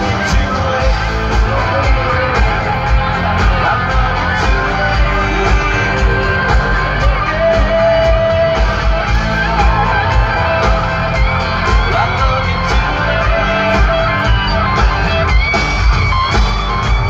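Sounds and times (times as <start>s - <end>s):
live band playing country rock: 0.0s - 17.0s.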